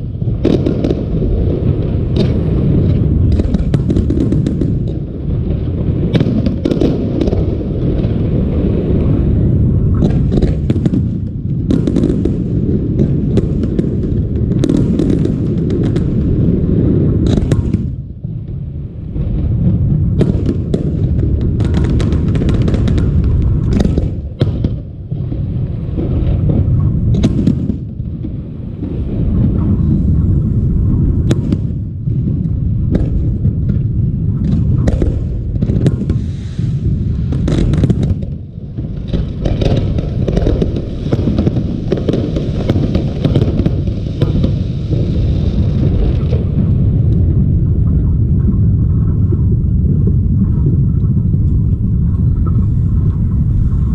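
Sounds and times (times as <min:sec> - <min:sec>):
deep fireworks booms: 0:00.0 - 0:53.9
fireworks cracks and crackles: 0:00.0 - 0:53.9.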